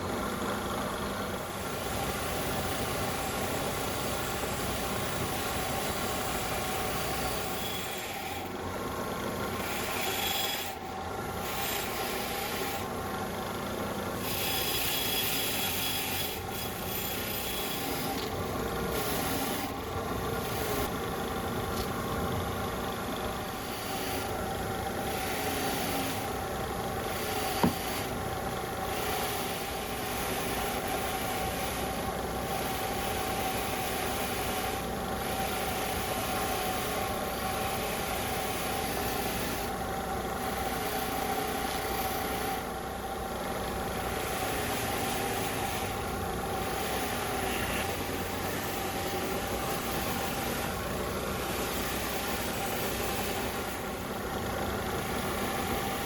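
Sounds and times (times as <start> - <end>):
small electric motor humming: 1.6 - 21.0, 22.8 - 56.0.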